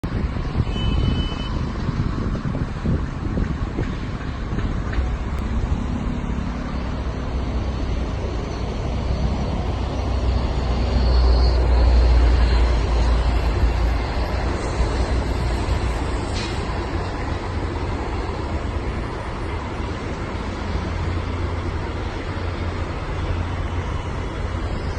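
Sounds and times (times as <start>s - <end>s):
road traffic rumbling: 0.0s - 24.9s.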